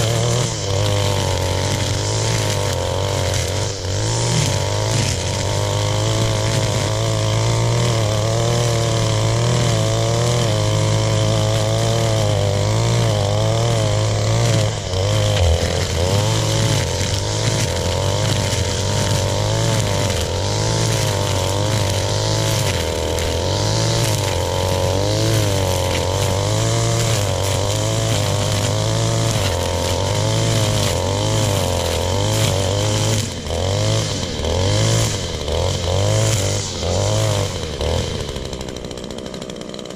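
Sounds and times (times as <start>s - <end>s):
string trimmer engine running: 0.0s - 39.9s.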